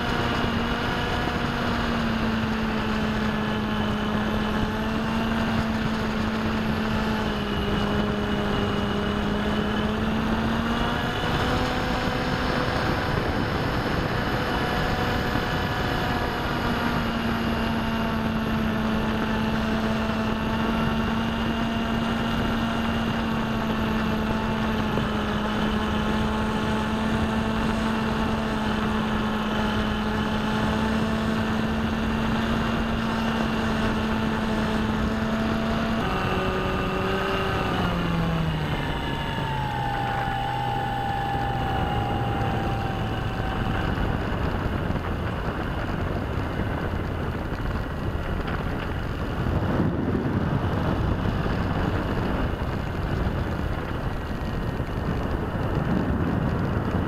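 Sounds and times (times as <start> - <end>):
electric motor and propeller whine: 0.0 - 57.0
wind rush: 0.0 - 57.0.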